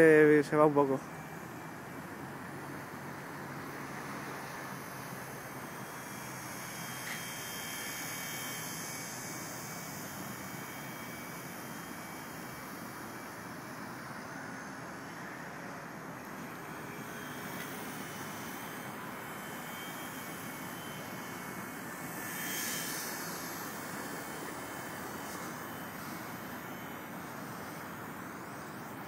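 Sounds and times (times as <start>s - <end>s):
rc helicopter rotor whirring: 0.0s - 29.0s.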